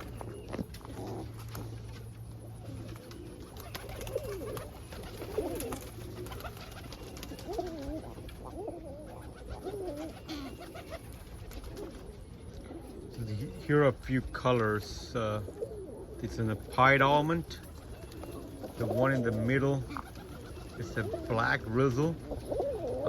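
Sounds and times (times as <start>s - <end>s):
pigeons cooing: 0.0s - 23.0s
steady low hum: 0.0s - 23.0s.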